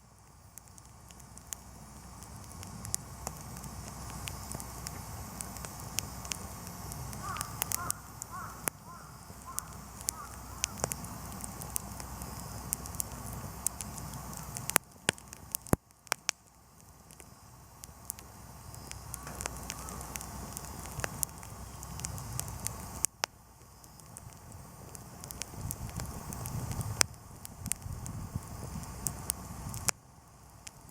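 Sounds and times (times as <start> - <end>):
campfire crackling and popping: 0.0 - 30.9
low steady rumble: 0.0 - 30.9.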